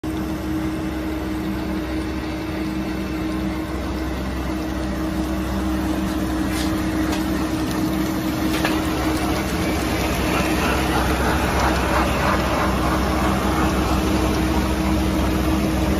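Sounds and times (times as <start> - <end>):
printing machine humming: 0.1 - 15.9.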